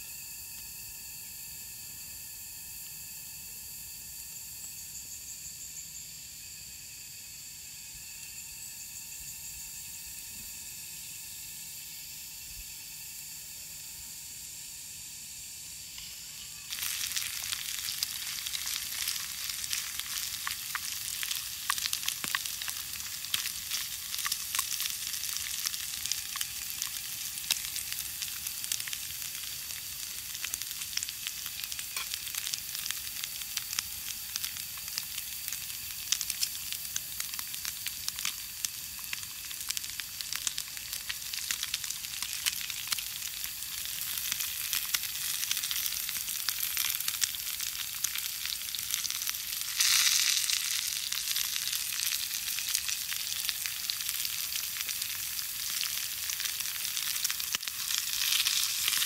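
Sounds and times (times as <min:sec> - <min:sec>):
high insect drone: 0:00.0 - 0:59.0
meat sizzling in a frying pan: 0:02.4 - 0:13.0, 0:13.6 - 0:59.0.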